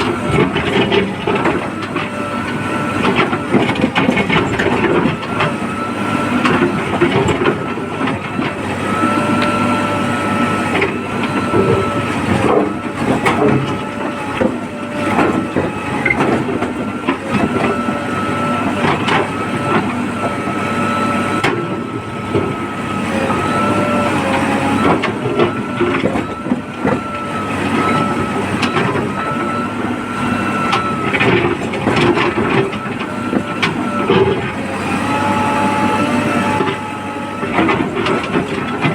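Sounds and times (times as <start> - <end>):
diesel engine under load: 0.0 - 38.9
knocks of mud and metal: 0.0 - 38.9.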